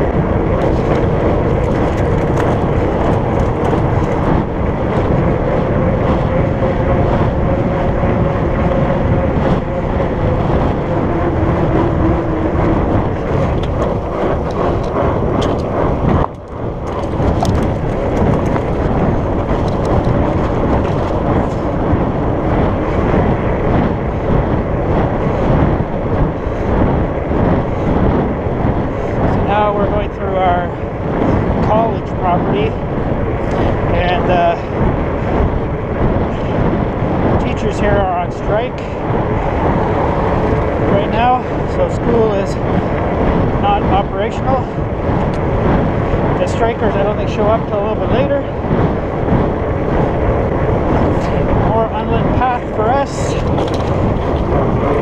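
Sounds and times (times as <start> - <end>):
bike tires rolling on pavement: 0.0 - 55.0
wind rushing over microphone: 0.0 - 55.0.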